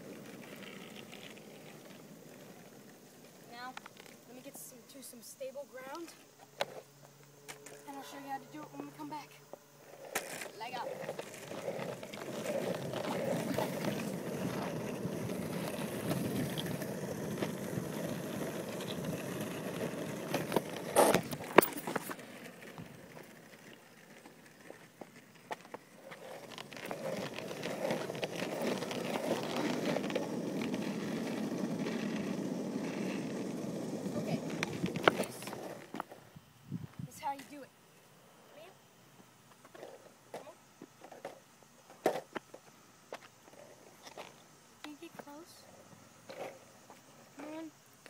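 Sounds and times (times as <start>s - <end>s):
longboard wheels rolling on asphalt: 0.0s - 48.0s.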